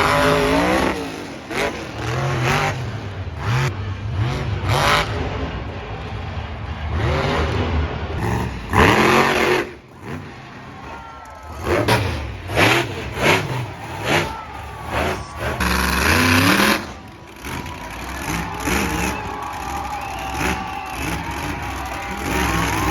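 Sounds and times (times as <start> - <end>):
truck engine revving: 0.0 - 22.9.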